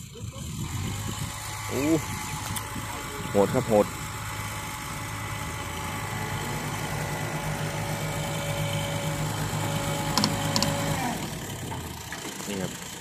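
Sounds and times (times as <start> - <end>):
diesel truck engine running: 0.0 - 13.0
hydraulic whine: 0.4 - 12.4.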